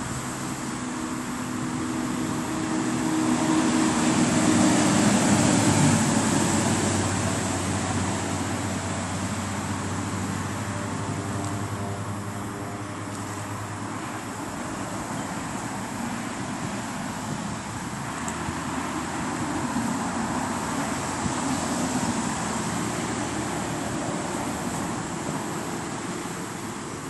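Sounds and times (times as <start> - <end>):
low traffic hum: 0.0 - 27.0
vehicle passing: 0.0 - 27.0.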